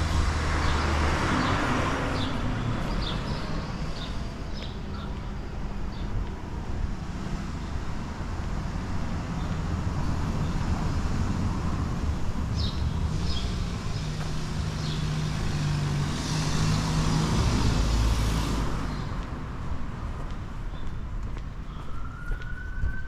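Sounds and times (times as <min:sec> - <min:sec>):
passing traffic rush: 0:00.0 - 0:23.0.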